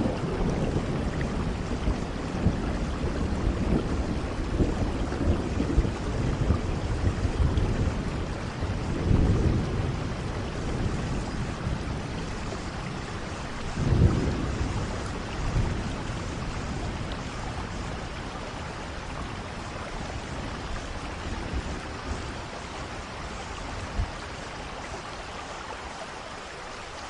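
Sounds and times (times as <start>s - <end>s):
steady rainfall: 0.0s - 27.0s.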